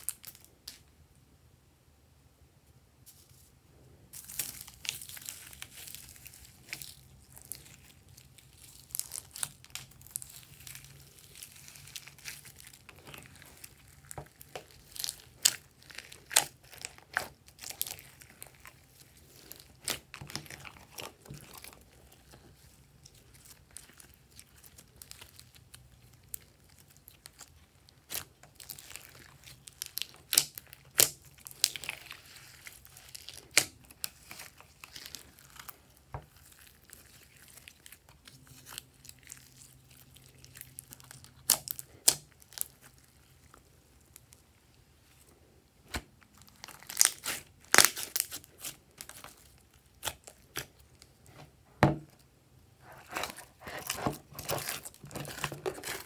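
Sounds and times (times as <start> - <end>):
slime squished by hand: 4.2 - 44.5, 45.8 - 52.2, 52.8 - 56.0.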